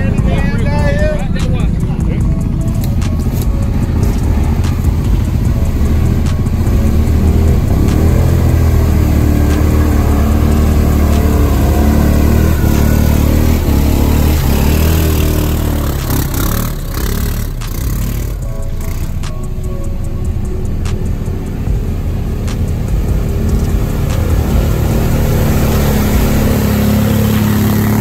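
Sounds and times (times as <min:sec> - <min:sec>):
quad engine revving: 0:00.0 - 0:28.0
rap beat: 0:00.0 - 0:28.0.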